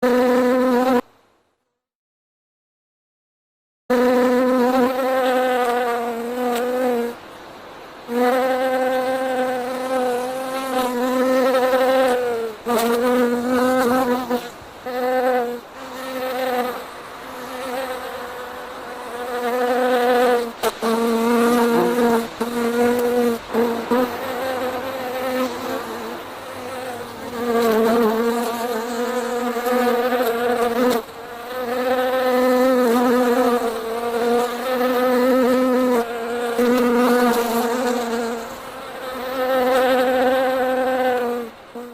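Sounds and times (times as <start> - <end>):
bee buzzing: 0.0 - 1.0, 3.9 - 7.2, 8.1 - 41.9.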